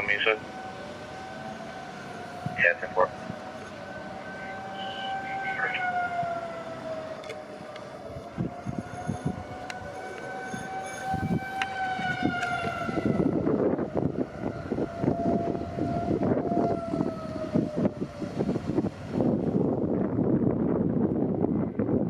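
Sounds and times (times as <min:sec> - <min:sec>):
tornado siren wailing: 0:00.0 - 0:22.0
wind noise on microphone: 0:01.2 - 0:22.0.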